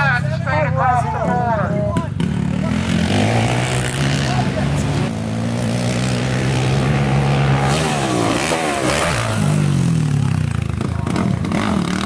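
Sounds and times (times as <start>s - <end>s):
quad engine revving: 2.0s - 12.0s.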